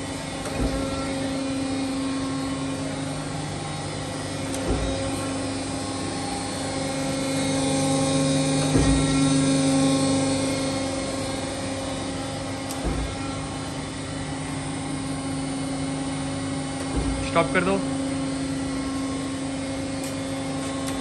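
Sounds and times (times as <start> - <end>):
surface grinder motor hum: 0.0 - 21.0.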